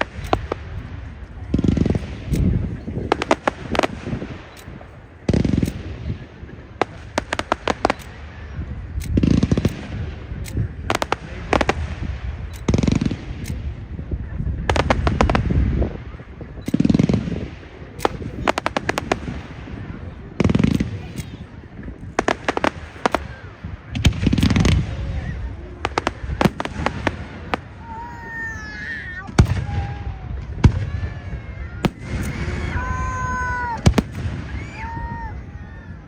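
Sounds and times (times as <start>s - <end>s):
firework shells booming: 0.0s - 35.3s
firework crackling reports: 0.0s - 36.0s.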